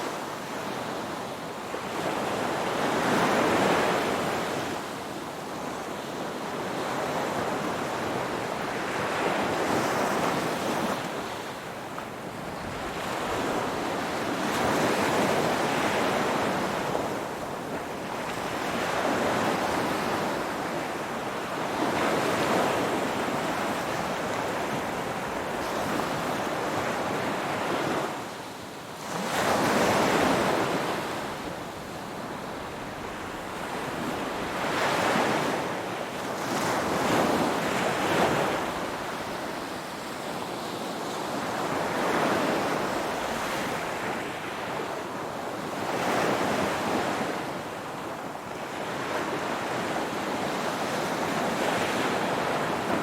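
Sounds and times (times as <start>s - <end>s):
ocean waves washing on shore: 0.0s - 53.0s.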